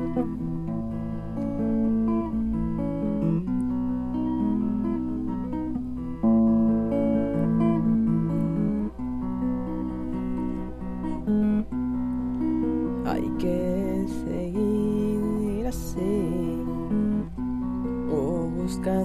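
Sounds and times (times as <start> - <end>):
guitar playing chords: 0.0 - 19.0.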